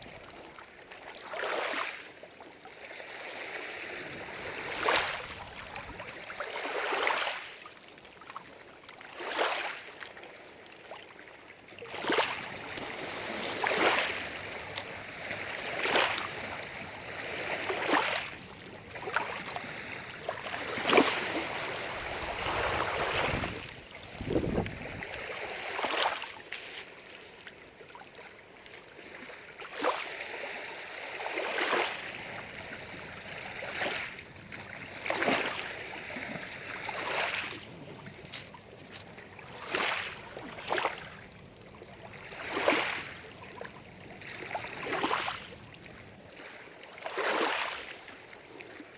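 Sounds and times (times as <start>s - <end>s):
small waves lapping on shore: 0.0s - 48.9s.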